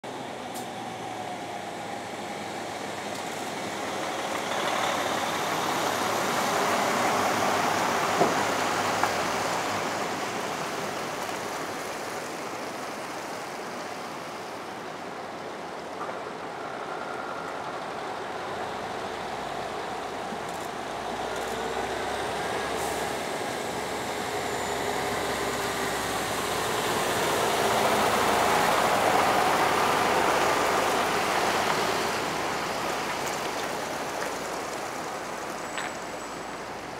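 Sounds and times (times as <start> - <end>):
heavy trucks passing slowly: 0.0 - 36.9.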